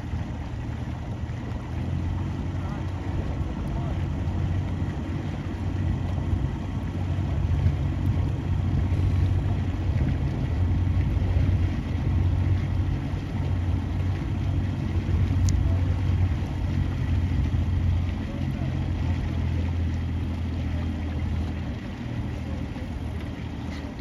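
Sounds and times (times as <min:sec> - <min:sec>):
motorboat engine humming: 0:00.0 - 0:24.0.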